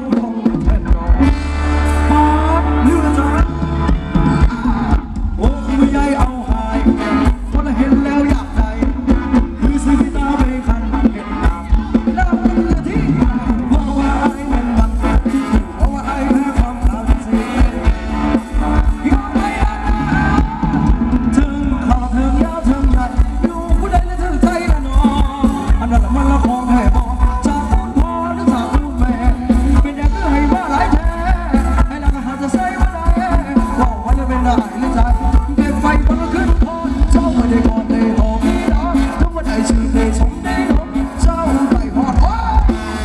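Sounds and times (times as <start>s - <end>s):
live band playing dance music: 0.0s - 43.0s.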